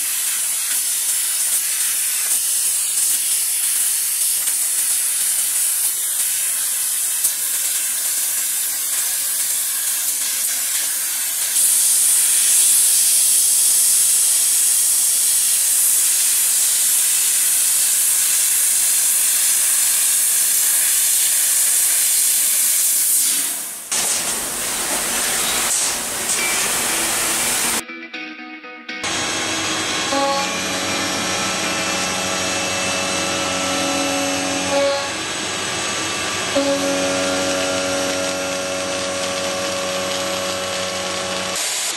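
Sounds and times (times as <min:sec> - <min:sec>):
laser cutter gas jet hissing: 0:00.0 - 0:27.8, 0:29.1 - 0:41.9.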